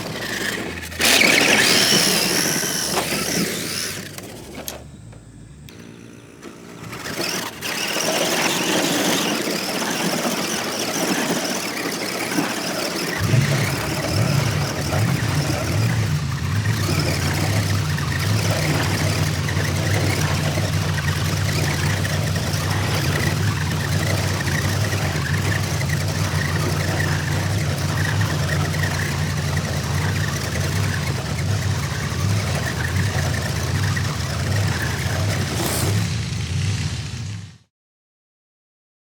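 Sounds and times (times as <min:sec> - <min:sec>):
large engine idling: 0:00.0 - 0:08.2, 0:12.1 - 0:37.7.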